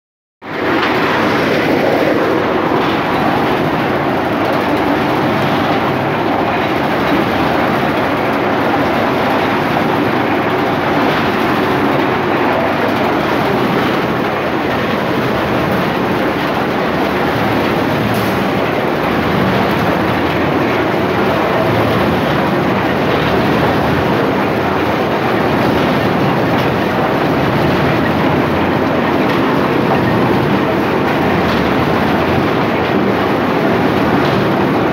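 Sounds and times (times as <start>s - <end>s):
machine rattling clatter: 0.5s - 34.9s.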